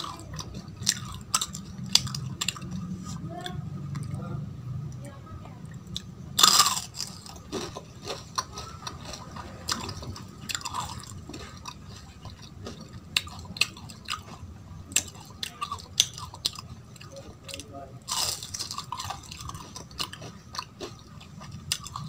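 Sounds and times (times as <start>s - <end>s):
crunchy biting and chewing: 0.0s - 3.2s, 5.9s - 22.0s.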